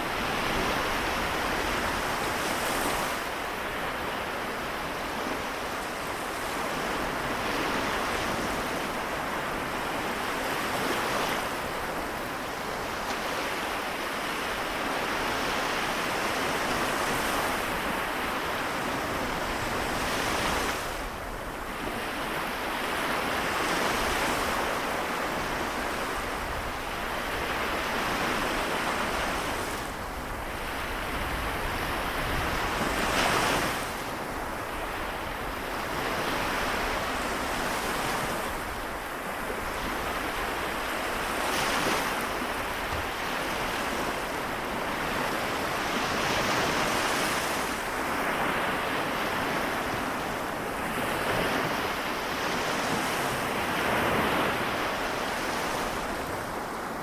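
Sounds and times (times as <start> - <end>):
small waves washing ashore: 0.0 - 57.0.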